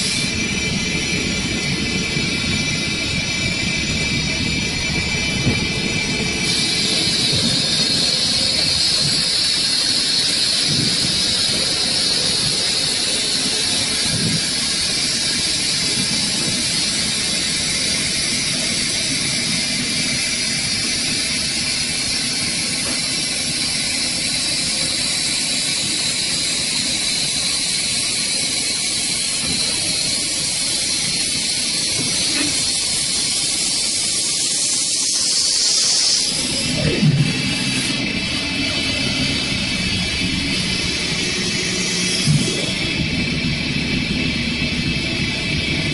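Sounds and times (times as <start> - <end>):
wood lathe cutters hissing: 0.0 - 45.9.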